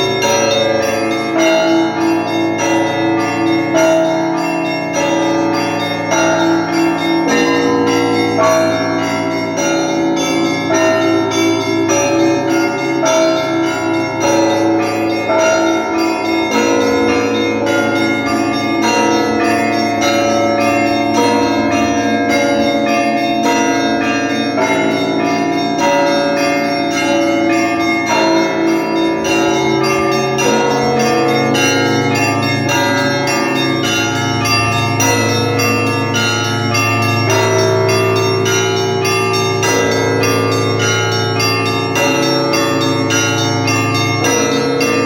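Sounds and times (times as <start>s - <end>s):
deep ringing of large bells: 0.0s - 45.0s
small church bells ringing quickly: 0.0s - 45.0s.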